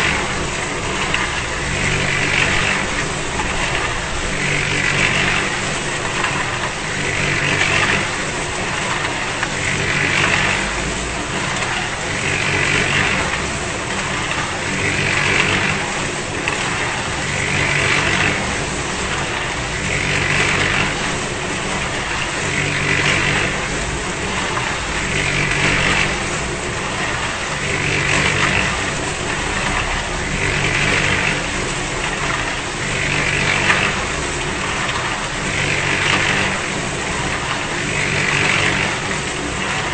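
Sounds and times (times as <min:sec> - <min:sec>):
concrete mixer running: 0:00.0 - 0:39.9.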